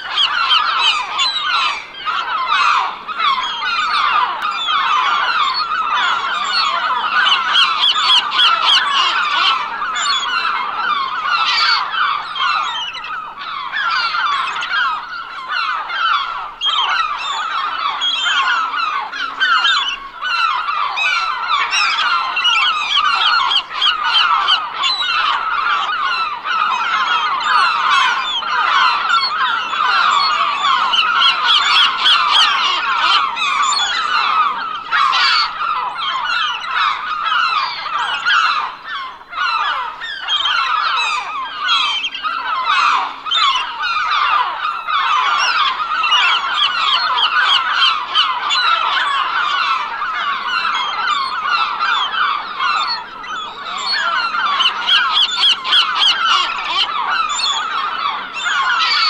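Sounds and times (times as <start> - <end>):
flock of gulls calling: 0.0 - 59.0.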